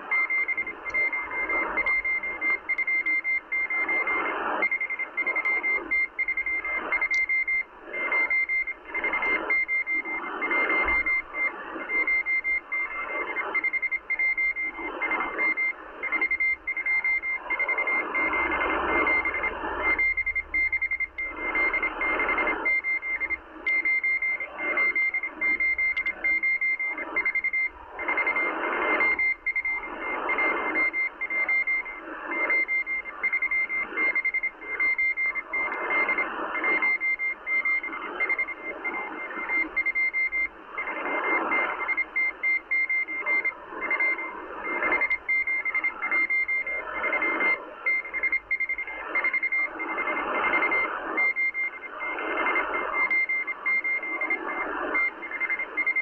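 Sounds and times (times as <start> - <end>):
morse code beeping: 0.0 - 11.3, 11.9 - 56.0
shortwave static: 0.0 - 56.0.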